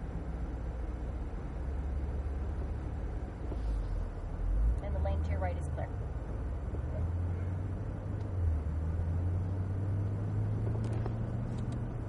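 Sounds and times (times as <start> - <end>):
low car engine drone: 0.0 - 12.0.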